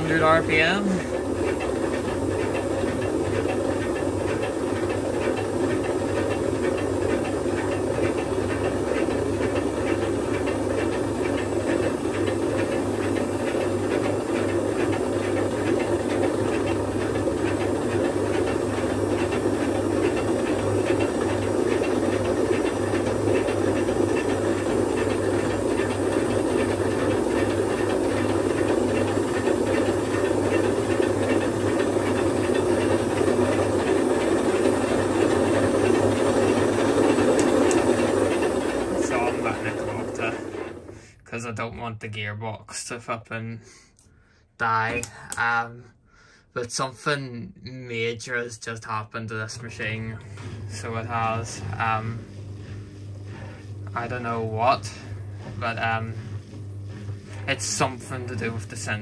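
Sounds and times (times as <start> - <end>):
washing machine spinning: 0.0 - 47.2, 47.9 - 59.0.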